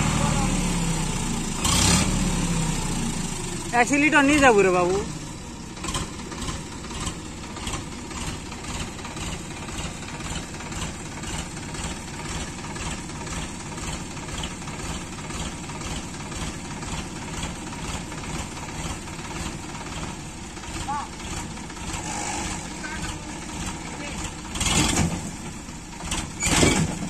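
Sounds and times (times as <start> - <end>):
diesel tractor engine idling: 0.0 - 27.0.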